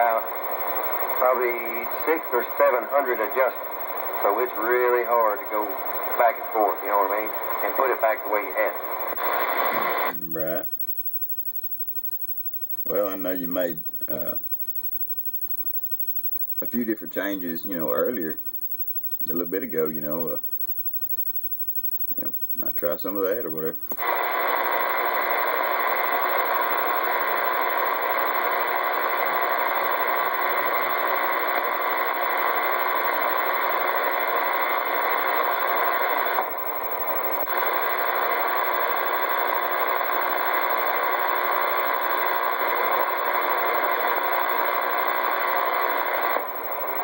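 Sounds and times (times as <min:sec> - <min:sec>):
radio static hiss: 0:00.0 - 0:47.0.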